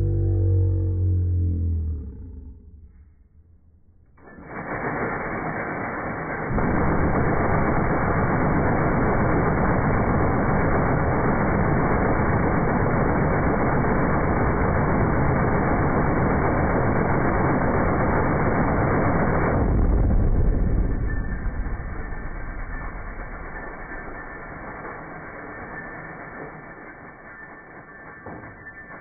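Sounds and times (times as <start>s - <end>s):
minigun firing continuous rumble: 2.6s - 29.0s.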